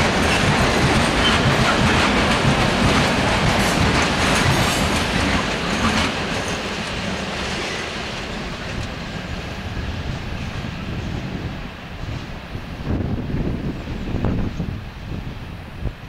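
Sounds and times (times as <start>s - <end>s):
freight train wheels clattering: 0.0s - 13.1s.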